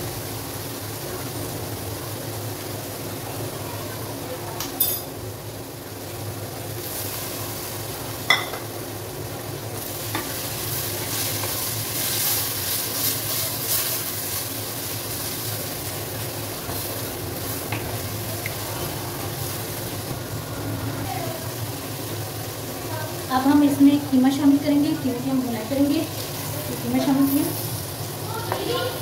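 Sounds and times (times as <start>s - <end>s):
masala sizzling in a pot: 0.0s - 29.0s.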